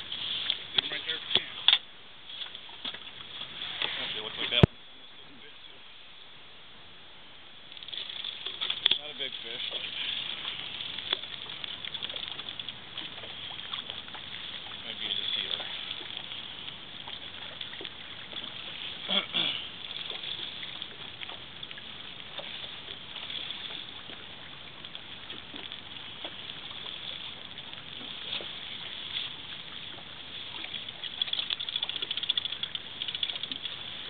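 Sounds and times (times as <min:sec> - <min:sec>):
wind and water hiss: 0:00.0 - 0:34.0.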